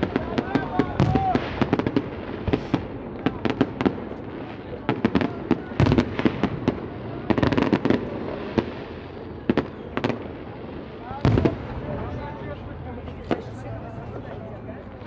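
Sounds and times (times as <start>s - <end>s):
fireworks bangs and crackling pops: 0.0s - 15.0s.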